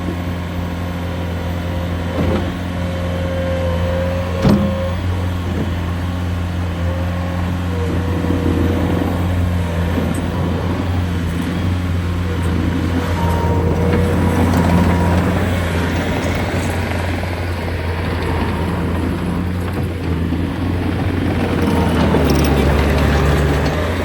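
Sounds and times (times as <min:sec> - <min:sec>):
diesel engine running: 0:00.0 - 0:24.0
hydraulic whine: 0:00.0 - 0:24.0.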